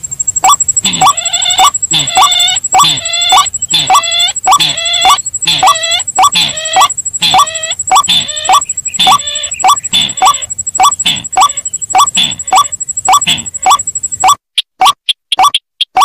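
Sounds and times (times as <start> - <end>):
bird calls: 0.4 - 14.7.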